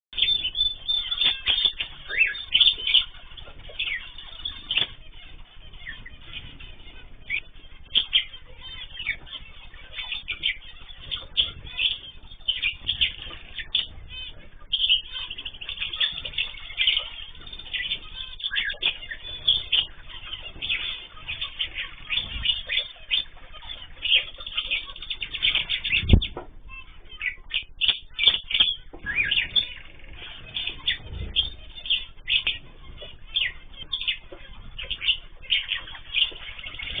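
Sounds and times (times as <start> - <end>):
cage birds chirping: 0.1 - 37.0.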